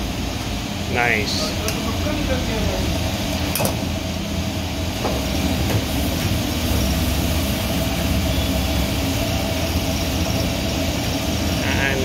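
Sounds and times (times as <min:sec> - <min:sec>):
wok burner roaring: 0:00.0 - 0:12.0.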